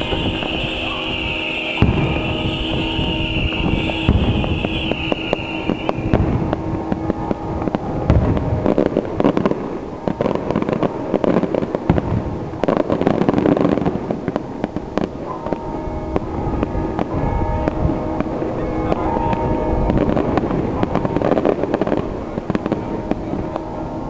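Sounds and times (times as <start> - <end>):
fireworks crackling and popping: 0.0 - 24.0.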